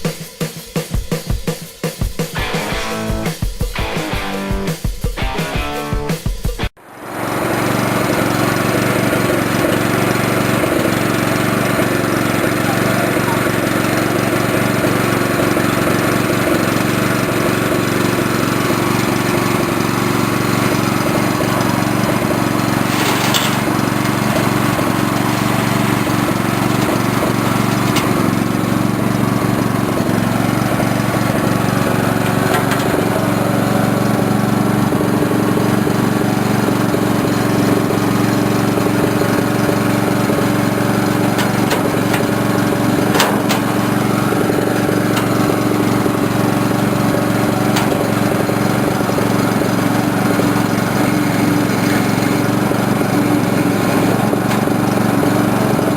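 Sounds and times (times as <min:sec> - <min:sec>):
engine running steadily: 0:06.8 - 0:55.9.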